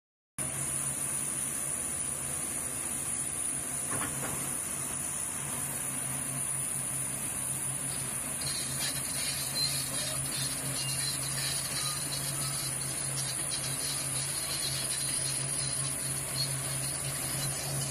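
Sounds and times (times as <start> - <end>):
high-pitched whine: 0.4 - 17.9
paving machine engine hum: 0.4 - 17.9.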